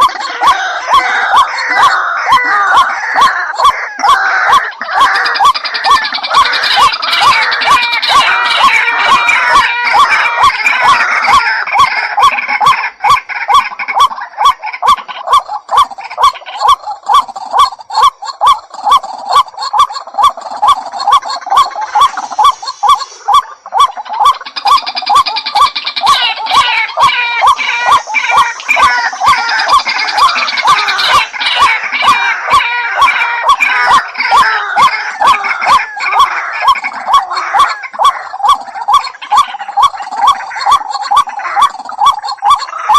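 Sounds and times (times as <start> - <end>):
bird harsh repeated calls: 0.0 - 42.9
higher bird calls: 0.0 - 42.9.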